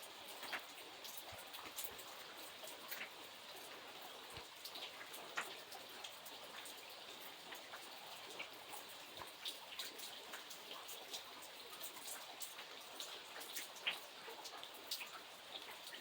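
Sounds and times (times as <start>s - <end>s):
rain falling: 0.0s - 16.0s
raindrops striking a surface: 0.0s - 16.0s.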